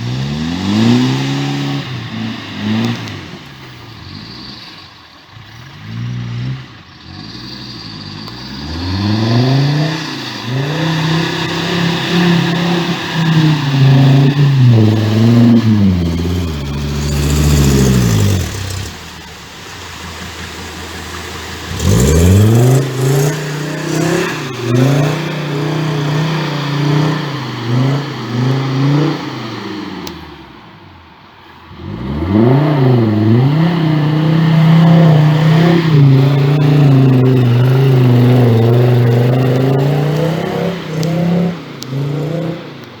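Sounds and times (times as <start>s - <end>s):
car engine revving: 0.0s - 30.9s, 31.7s - 43.0s.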